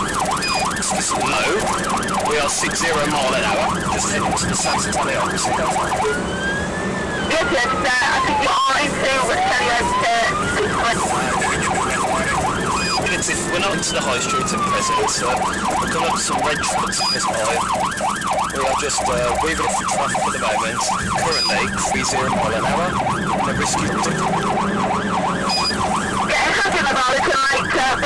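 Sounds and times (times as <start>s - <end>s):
car engine and road hum: 0.0s - 28.0s
police siren yelping: 0.0s - 28.0s.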